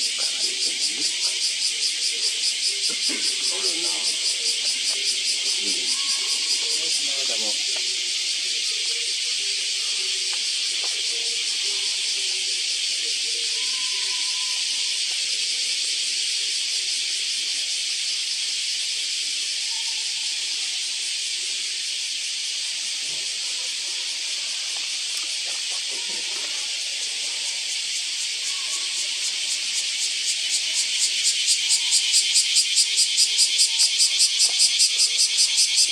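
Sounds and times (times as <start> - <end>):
insect chorus hissing: 0.0 - 35.9.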